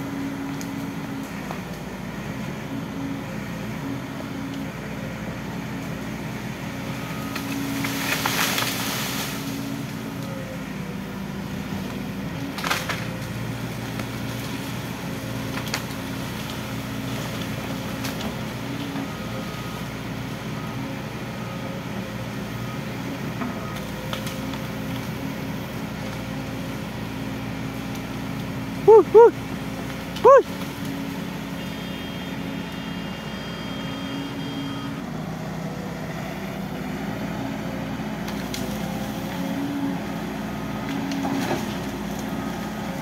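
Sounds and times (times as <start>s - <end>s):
excavator diesel engine under load: 0.0s - 43.0s.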